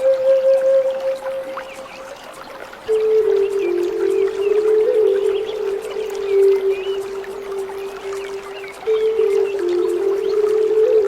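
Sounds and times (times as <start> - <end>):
flute long low note: 0.0 - 1.6, 2.9 - 11.0
running water rushing: 0.0 - 11.0
bird chirps: 1.4 - 11.0.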